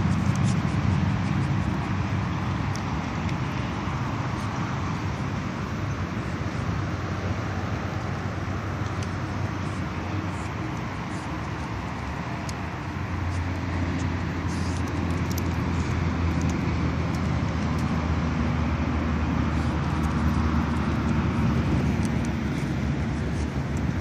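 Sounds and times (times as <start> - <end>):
road traffic on bridge: 0.0 - 24.0.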